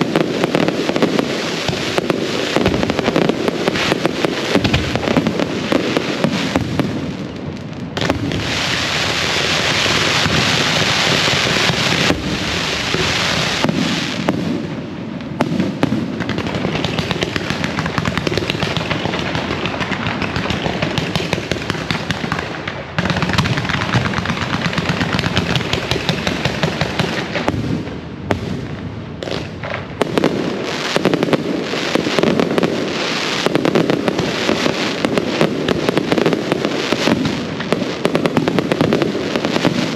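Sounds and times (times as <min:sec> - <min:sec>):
firecrackers crackling and popping: 0:00.0 - 0:39.9
firework bangs: 0:00.0 - 0:39.9.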